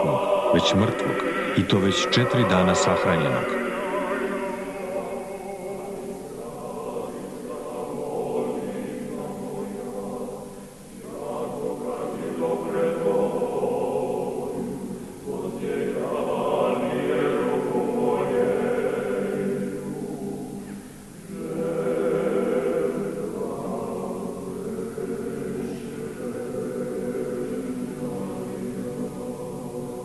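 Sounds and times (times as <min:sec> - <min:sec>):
choir chanting: 0:00.0 - 0:30.0.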